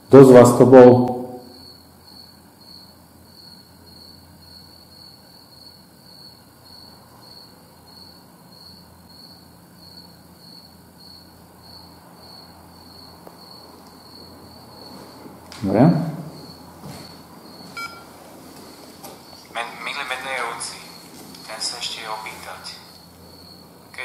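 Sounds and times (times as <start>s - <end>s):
cricket chirping: 0.0s - 24.0s.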